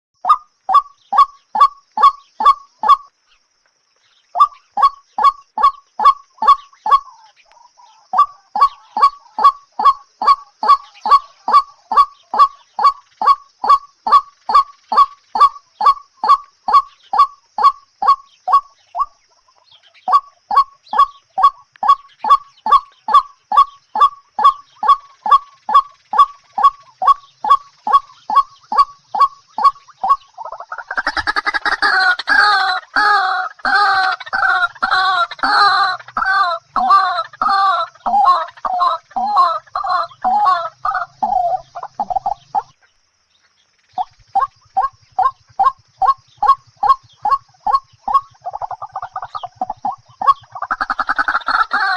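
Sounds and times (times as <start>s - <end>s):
honking bird call: 0.2s - 3.1s, 4.3s - 43.0s, 44.0s - 51.9s.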